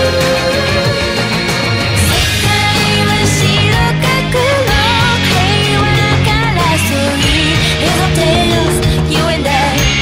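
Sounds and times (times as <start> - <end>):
rock song with singing: 0.0 - 10.0.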